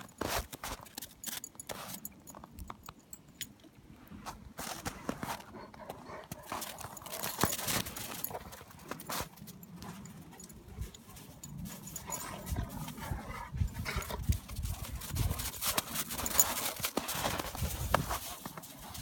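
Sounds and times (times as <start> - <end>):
paws crunching through snow: 0.0 - 2.5, 4.1 - 19.0.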